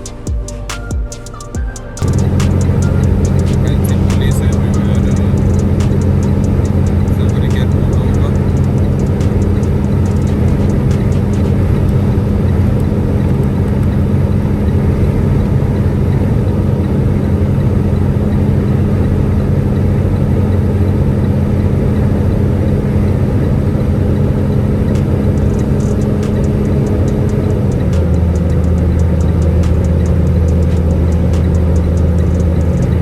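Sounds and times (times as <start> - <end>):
truck engine drone: 0.0 - 33.0.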